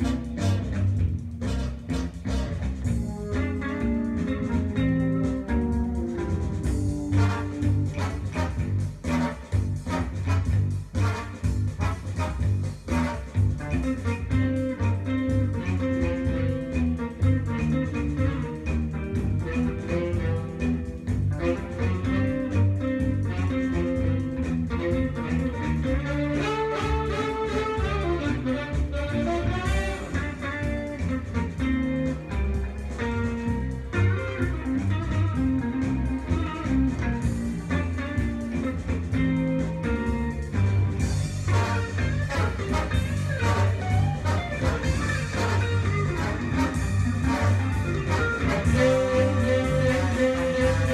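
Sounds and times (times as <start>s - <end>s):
guitar music with bass and beat: 0.0s - 50.9s.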